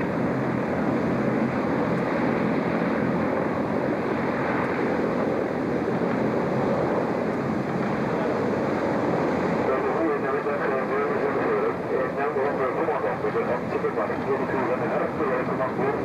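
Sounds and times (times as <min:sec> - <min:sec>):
hovercraft propellers and engines: 0:00.0 - 0:16.0
rush of spray and wind: 0:00.0 - 0:16.0.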